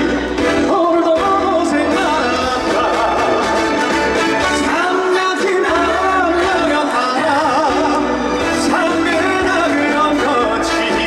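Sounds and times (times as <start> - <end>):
backing band playing: 0.0 - 11.0
man singing: 0.0 - 11.0.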